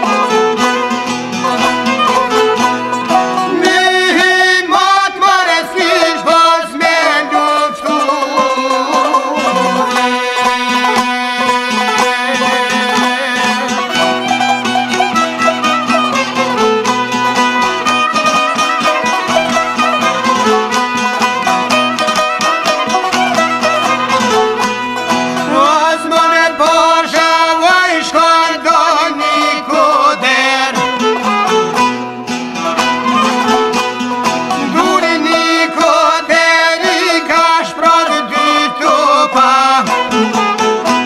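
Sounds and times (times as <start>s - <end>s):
rhythmic string accompaniment: 0.0s - 41.0s
violin melody with vibrato: 0.0s - 41.0s.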